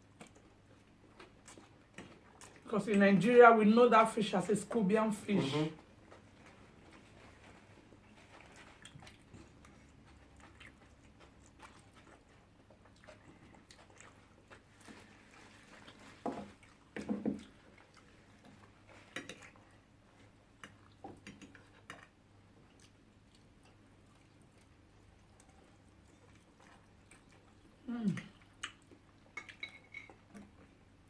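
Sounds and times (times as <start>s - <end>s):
person chewing: 0.1s - 2.7s, 5.5s - 30.9s.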